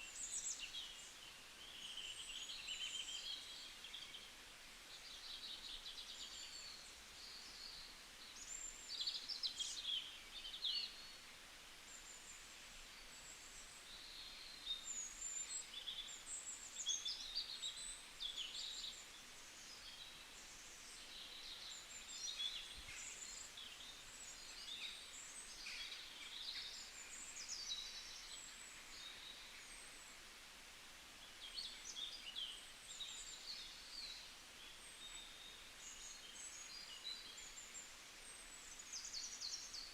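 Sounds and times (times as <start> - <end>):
small birds chirping and singing: 0.0 - 30.4, 31.2 - 39.9
faint outdoor background hiss: 0.0 - 39.9.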